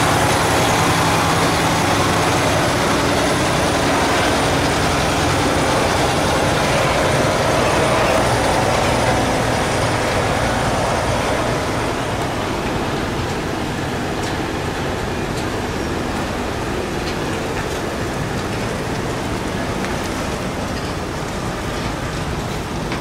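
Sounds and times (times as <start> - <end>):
diesel engine running: 0.0 - 23.0
tyre and road noise: 0.0 - 23.0.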